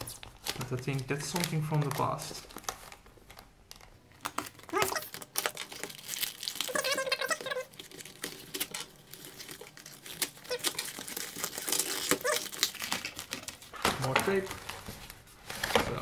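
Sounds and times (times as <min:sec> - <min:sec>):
packing tape and cardboard tearing: 0:00.0 - 0:16.0
plastic wrap crinkling: 0:00.0 - 0:16.0.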